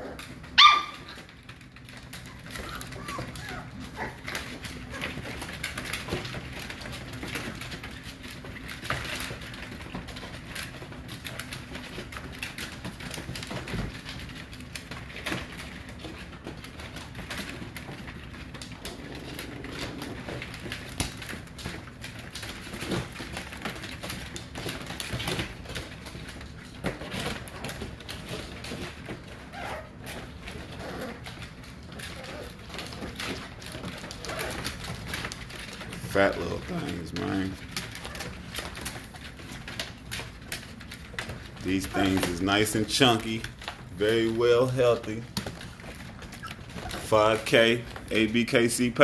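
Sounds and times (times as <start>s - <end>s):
puppies squeaking and grunting: 0.0s - 26.2s, 26.8s - 48.6s.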